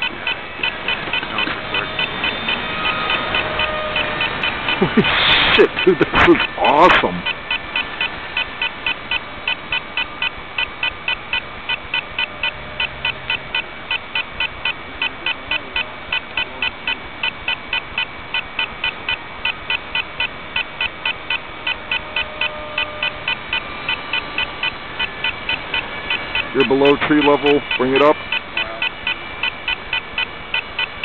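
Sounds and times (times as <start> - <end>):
faint steady tone: 0.0 - 5.0, 5.6 - 31.0
rapid electronic beeping: 0.0 - 31.0.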